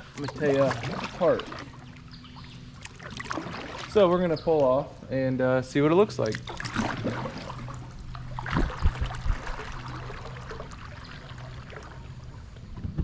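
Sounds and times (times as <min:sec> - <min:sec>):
water splashing around kayak: 0:00.0 - 0:05.0, 0:05.7 - 0:12.9.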